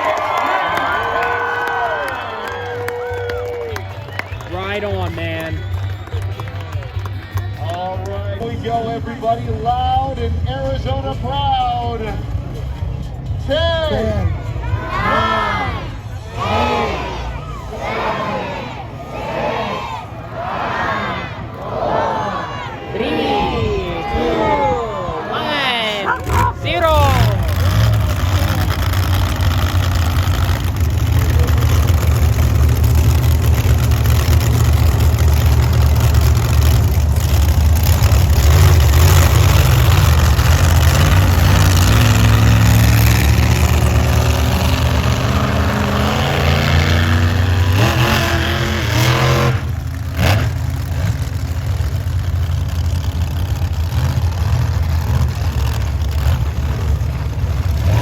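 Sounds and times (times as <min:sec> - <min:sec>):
monster truck engines revving: 0:00.0 - 0:58.0.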